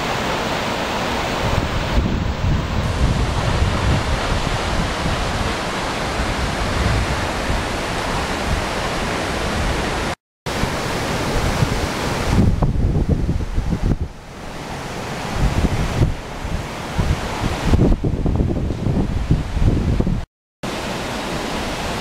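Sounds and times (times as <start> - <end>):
waterfall rushing: 0.0 - 20.0, 20.6 - 22.0.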